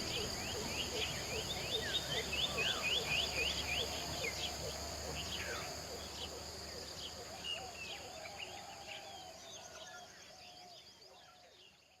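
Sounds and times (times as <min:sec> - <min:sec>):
insects droning: 0:00.0 - 0:11.9.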